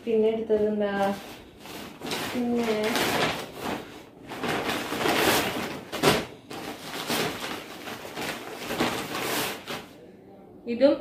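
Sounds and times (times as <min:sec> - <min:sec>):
plastic bags rustling and crinkling: 0:00.0 - 0:10.0
sharp plastic crackle: 0:01.0 - 0:10.0.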